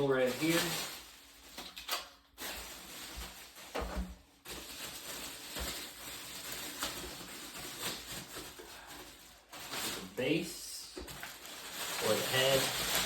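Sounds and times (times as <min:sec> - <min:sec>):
plastic packaging rustling: 0:00.0 - 0:13.0.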